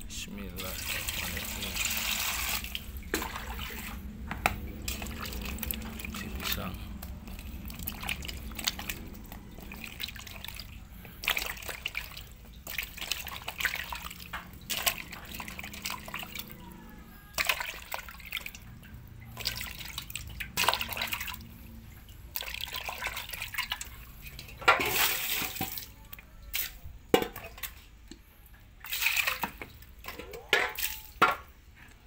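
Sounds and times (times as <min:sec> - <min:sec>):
water sloshing in metal pot: 0:00.6 - 0:32.0.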